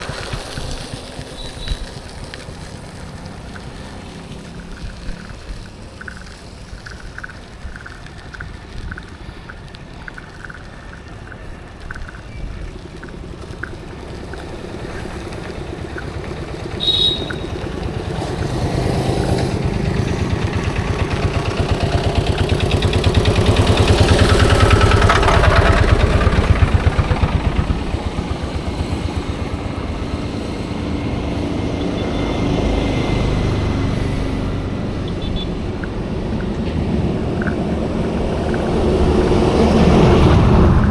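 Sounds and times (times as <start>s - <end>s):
light regular ticking: 0.0s - 31.5s, 32.8s - 40.9s
bus diesel engine passing: 0.0s - 40.9s.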